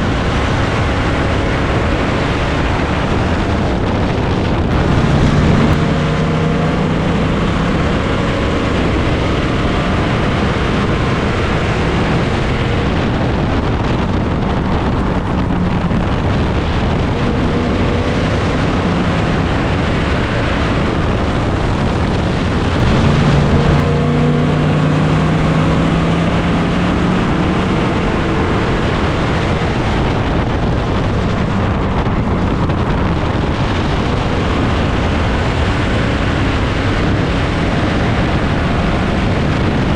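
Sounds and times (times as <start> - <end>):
race car engines droning: 0.0 - 39.9
wind on microphone: 0.0 - 39.9.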